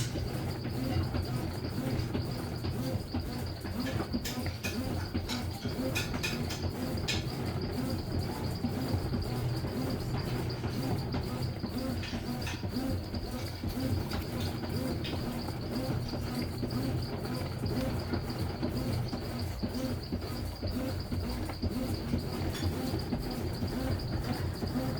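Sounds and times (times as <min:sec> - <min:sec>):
washing machine churning: 0:00.0 - 0:24.9.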